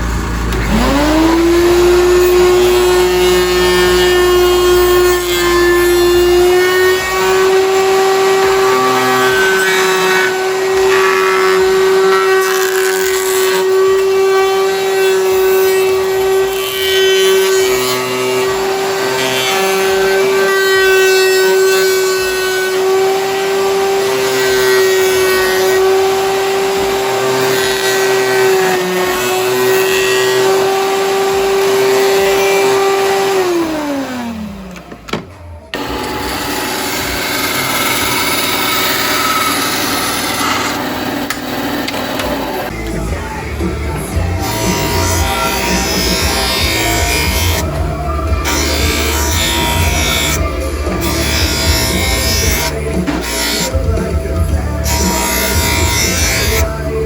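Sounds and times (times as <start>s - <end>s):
power tool motor cutting: 0.0s - 57.0s.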